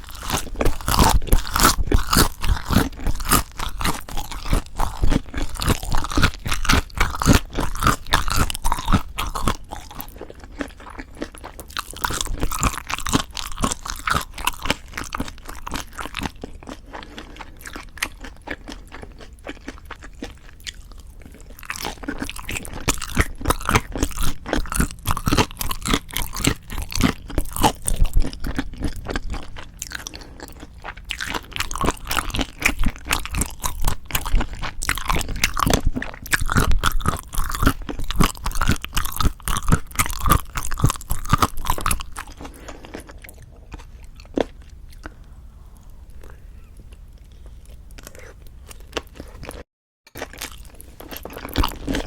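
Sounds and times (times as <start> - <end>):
crunchy chewing: 0.0 - 52.0.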